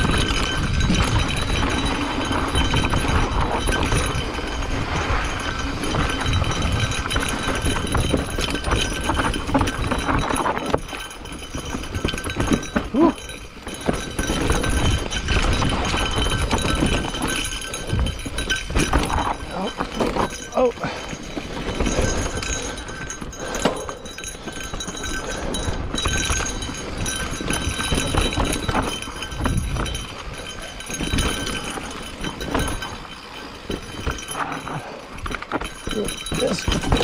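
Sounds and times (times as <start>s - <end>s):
bike clattering and rattling: 0.0s - 37.0s
tyres rumbling: 0.0s - 37.0s
wind: 0.0s - 37.0s.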